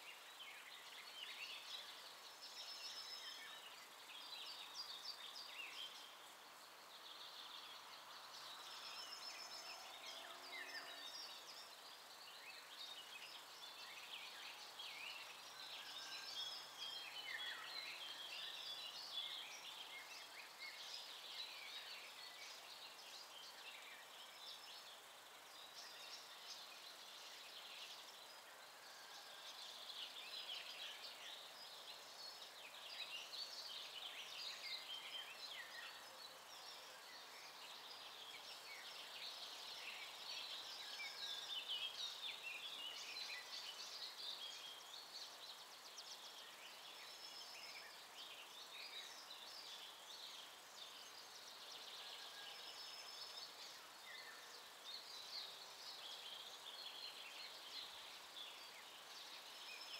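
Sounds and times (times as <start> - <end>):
chorus of songbirds: 0.0 - 59.9.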